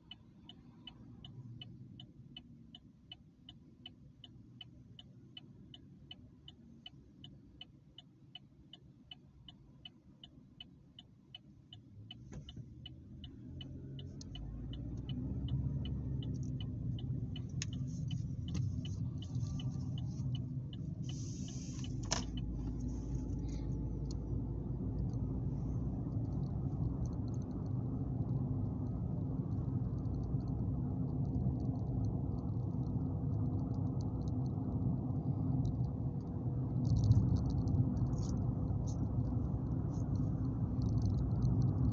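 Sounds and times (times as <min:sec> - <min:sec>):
engine and tyre rumble: 0:00.0 - 0:41.9
turn signal ticking: 0:00.0 - 0:41.9.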